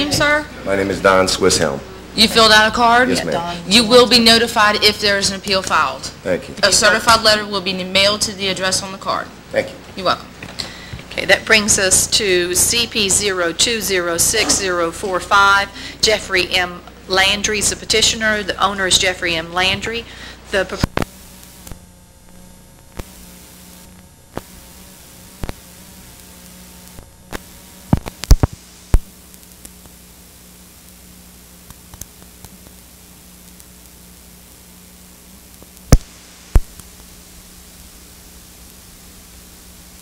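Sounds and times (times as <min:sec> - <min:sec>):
tape hiss and static: 0:00.0 - 0:40.0.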